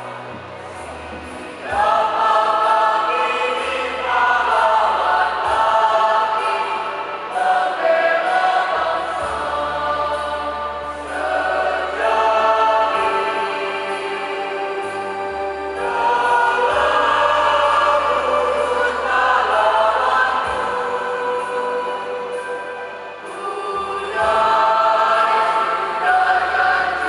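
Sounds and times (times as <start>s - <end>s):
choir singing: 0.8s - 27.0s.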